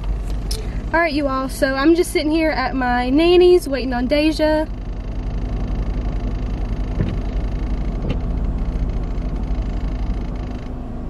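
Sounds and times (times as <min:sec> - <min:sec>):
car cabin hum: 0:00.0 - 0:11.0
pulsing low rumble: 0:00.0 - 0:11.0.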